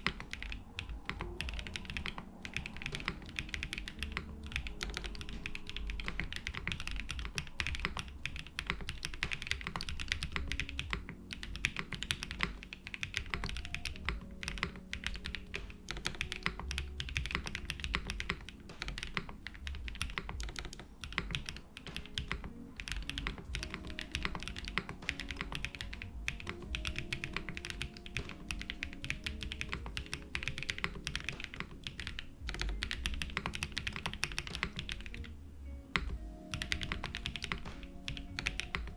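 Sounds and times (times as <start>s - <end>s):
mechanical keyboard typing: 0.0s - 35.3s, 35.9s - 38.9s
soft background music: 0.0s - 38.9s.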